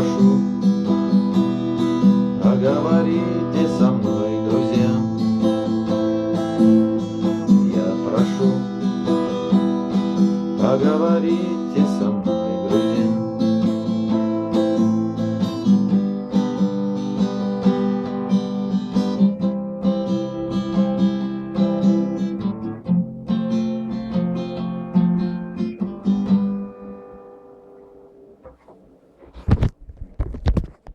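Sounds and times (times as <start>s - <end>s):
acoustic guitar strumming chords: 0.0s - 29.3s.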